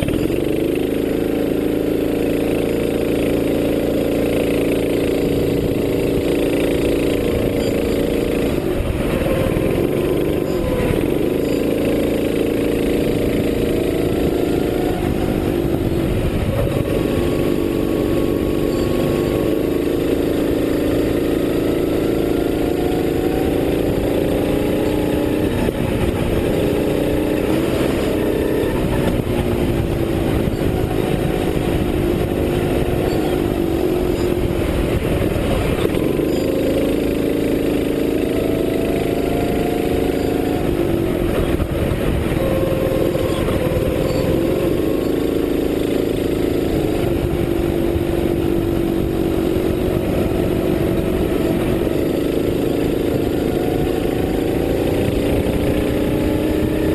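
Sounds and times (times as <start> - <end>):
racing kart engine: 0.0 - 56.9.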